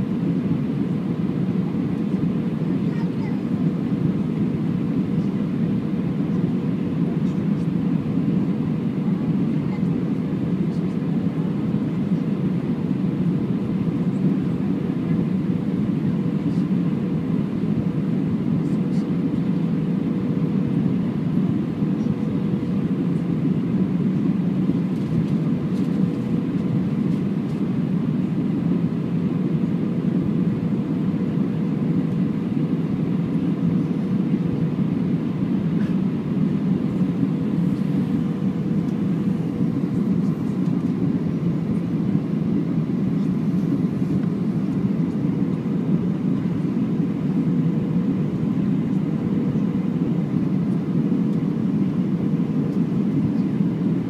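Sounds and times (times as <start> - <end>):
airplane cabin engine roar: 0.0 - 54.0
faint steady hum: 0.0 - 54.0.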